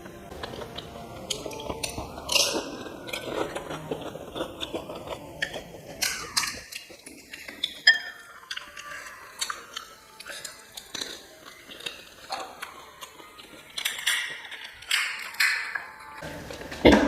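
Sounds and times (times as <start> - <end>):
crunching and chewing crisp food: 0.0 - 17.0.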